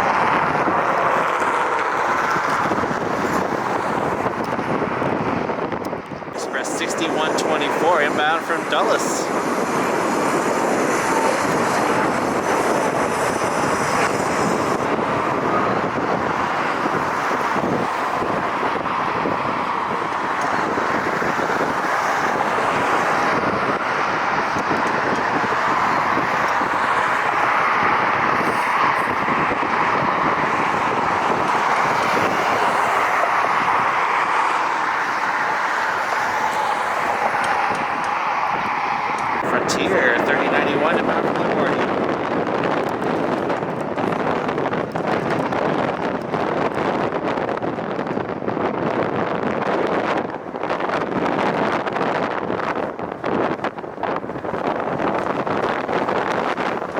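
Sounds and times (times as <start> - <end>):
jet engines rushing: 0.0 - 46.2.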